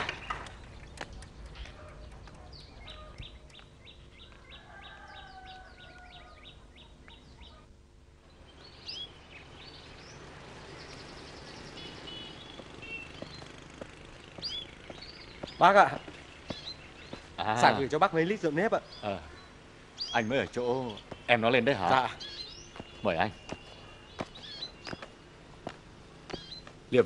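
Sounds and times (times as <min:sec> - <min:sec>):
songbird trills: 0:00.0 - 0:07.7, 0:08.3 - 0:26.9
small birds chirping: 0:00.0 - 0:27.0.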